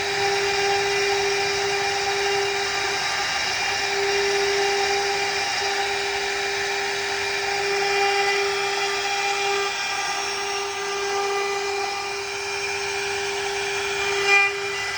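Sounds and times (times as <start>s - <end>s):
router spindle whine: 0.0s - 14.9s.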